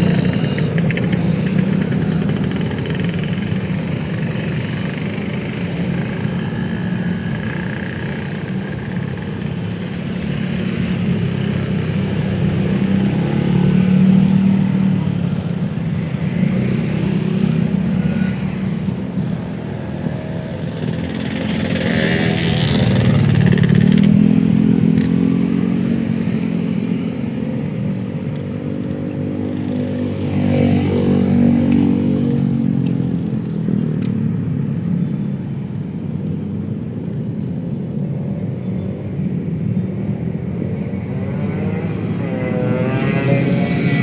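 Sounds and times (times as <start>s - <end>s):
motorcycle engines passing: 0.0s - 35.4s, 36.0s - 44.0s
car engines passing: 0.0s - 44.0s.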